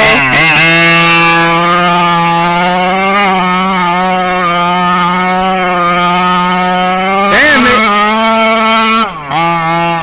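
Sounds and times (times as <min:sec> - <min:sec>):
small two-stroke engine at high revs: 0:00.0 - 0:10.0.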